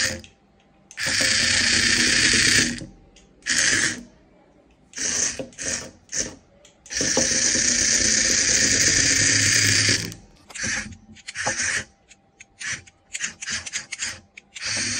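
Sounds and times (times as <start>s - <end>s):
toy motor whirring: 0.0s - 0.3s, 0.9s - 4.1s, 4.9s - 14.9s.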